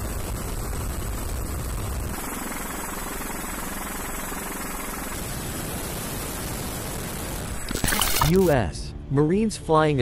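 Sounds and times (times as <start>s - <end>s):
helicopter rotor and turbine: 0.0s - 8.6s.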